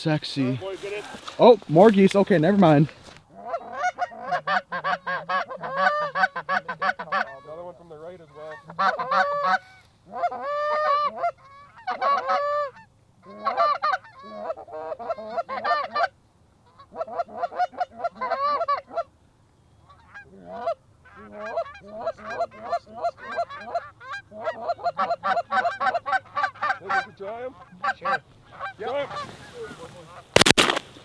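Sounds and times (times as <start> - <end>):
geese honking: 0.0 - 16.1, 16.7 - 19.1, 19.9 - 30.8.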